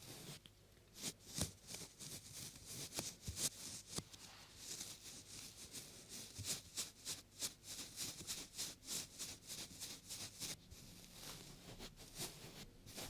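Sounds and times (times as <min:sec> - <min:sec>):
brushing against microphone: 0:00.0 - 0:13.0.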